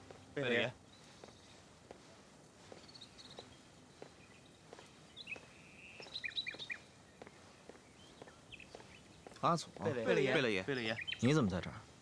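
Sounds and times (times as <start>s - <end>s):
soft footsteps: 0.0s - 10.5s
small birds chirping: 0.0s - 12.0s.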